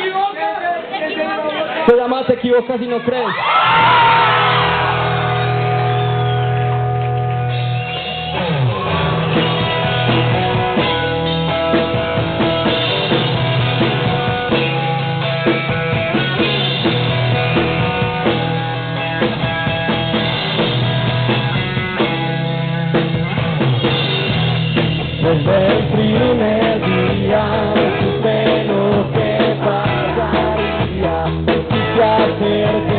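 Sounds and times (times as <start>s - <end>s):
rock band playing: 3.6s - 32.9s
drum kit beat: 3.8s - 32.9s.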